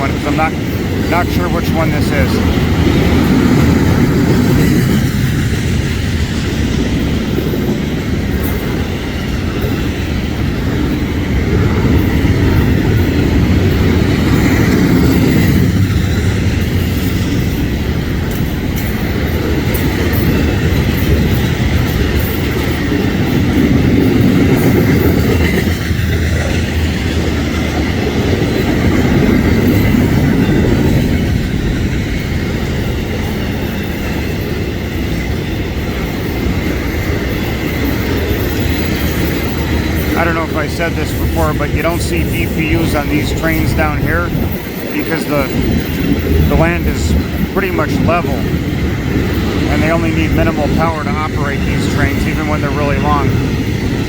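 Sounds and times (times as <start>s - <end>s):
freight train cars rumbling past: 0.0s - 54.0s.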